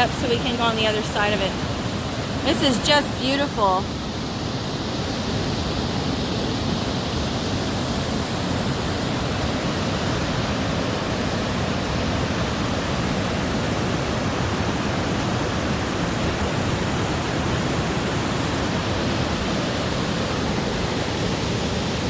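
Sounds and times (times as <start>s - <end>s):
large waterfall rushing: 0.0s - 22.0s.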